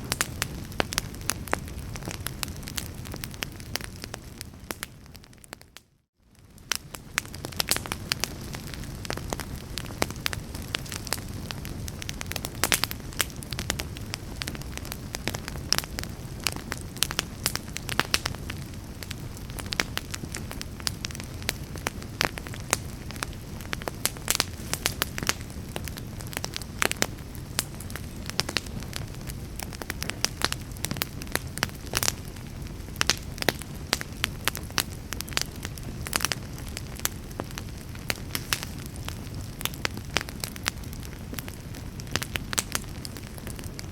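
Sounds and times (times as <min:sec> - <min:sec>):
fire pops and snaps: 0:00.0 - 0:43.9
low rush of flame: 0:06.3 - 0:43.9.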